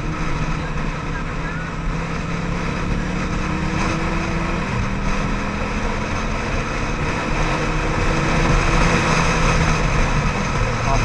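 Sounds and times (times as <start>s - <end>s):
motorcycle engine running: 0.0s - 11.0s
rush of wind noise: 0.0s - 11.0s.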